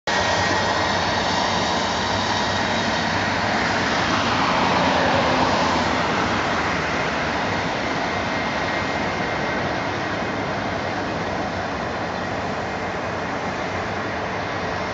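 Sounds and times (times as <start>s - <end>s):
jet engines rushing with high whine: 0.1s - 14.9s.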